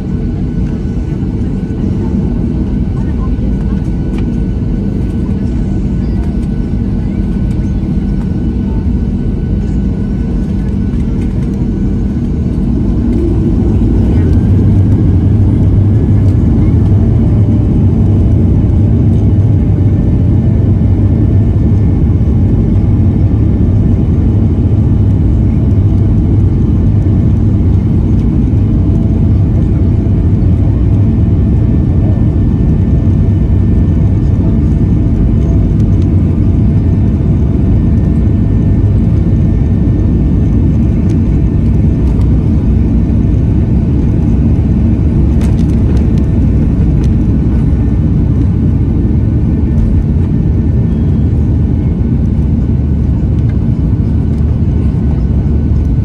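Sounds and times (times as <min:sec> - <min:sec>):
jet engines rumbling at takeoff: 0:00.0 - 0:56.0.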